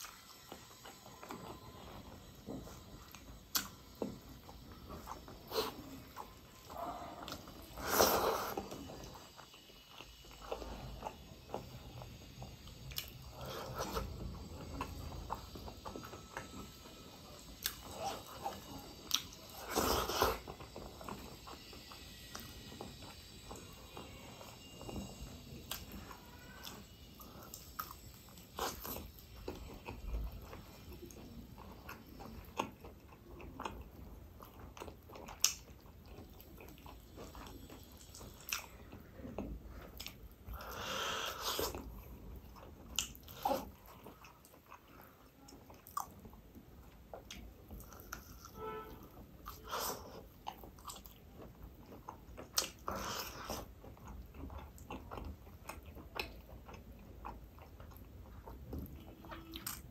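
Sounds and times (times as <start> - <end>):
person chewing meat: 0.0 - 59.9.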